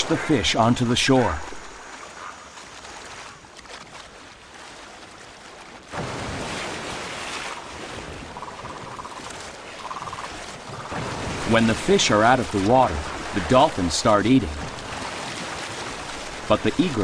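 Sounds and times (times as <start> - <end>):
water rushing and splashing: 0.0 - 17.0.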